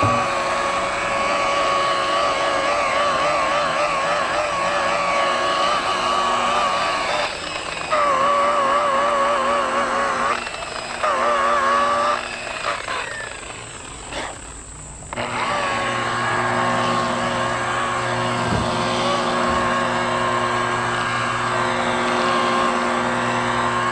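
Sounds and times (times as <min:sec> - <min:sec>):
orbital buffer motor whine: 0:00.0 - 0:23.9.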